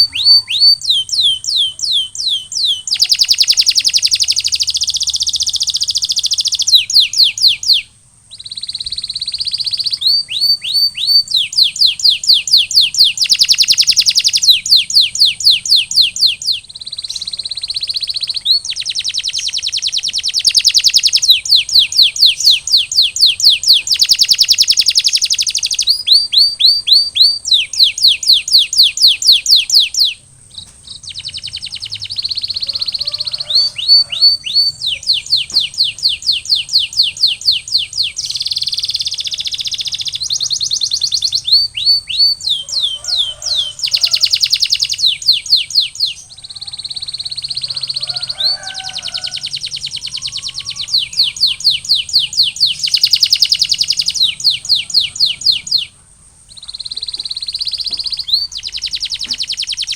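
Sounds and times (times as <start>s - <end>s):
canary singing trills and whistles: 0.0s - 59.9s.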